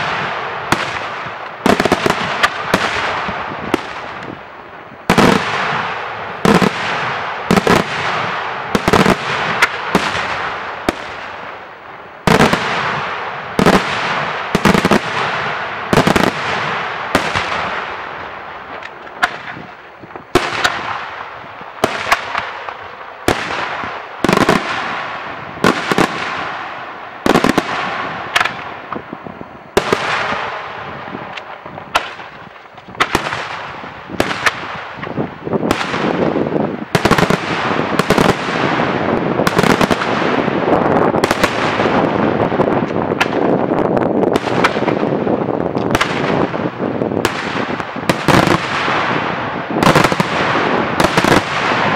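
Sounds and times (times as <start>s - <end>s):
fireworks bursting with echo: 0.0s - 51.9s.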